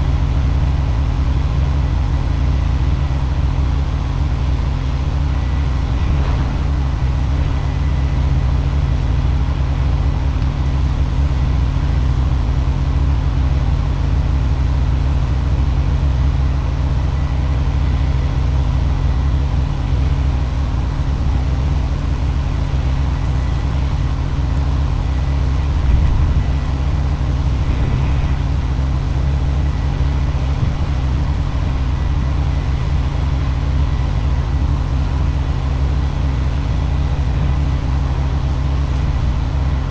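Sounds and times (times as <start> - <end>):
pressure washer engine droning: 0.0 - 39.9.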